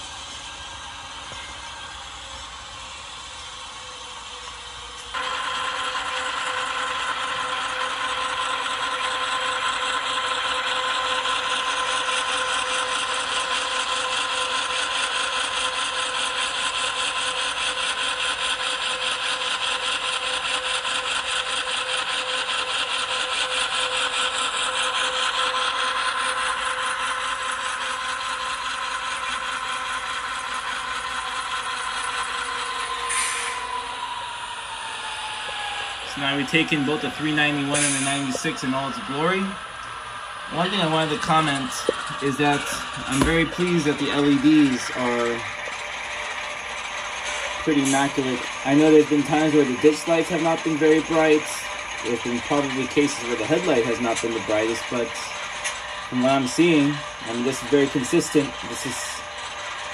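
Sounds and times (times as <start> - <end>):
model locomotive diesel engine sound: 0.0 - 59.9.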